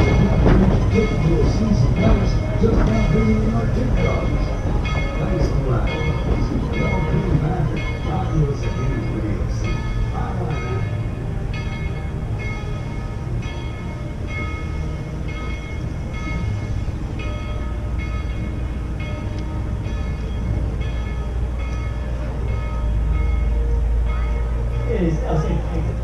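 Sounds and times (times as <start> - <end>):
bell ringing: 0.0 - 26.0
steam locomotive rumble: 0.0 - 26.0.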